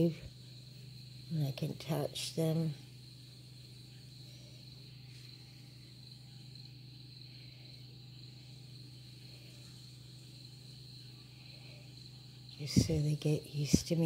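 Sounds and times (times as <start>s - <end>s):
crickets trilling: 0.0s - 14.0s
low steady hum: 0.0s - 14.0s.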